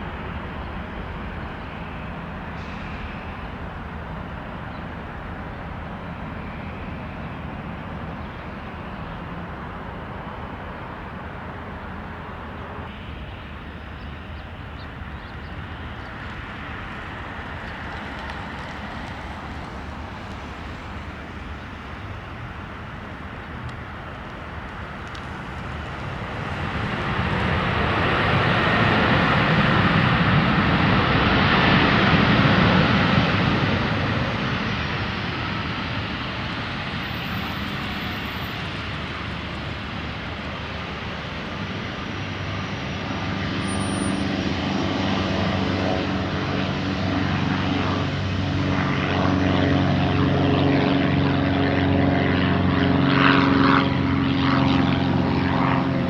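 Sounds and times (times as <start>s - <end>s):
jet airplane passing by: 0.0s - 56.0s.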